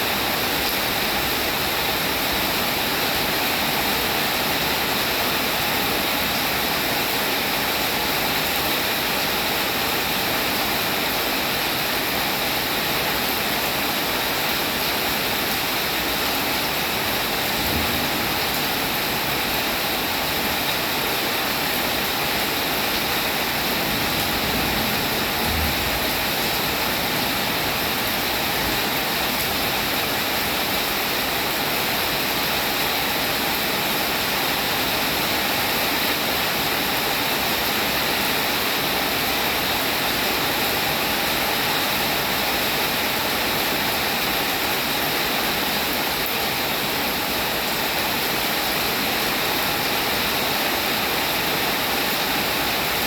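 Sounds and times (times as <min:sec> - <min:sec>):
heavy rainfall: 0:00.0 - 0:53.0.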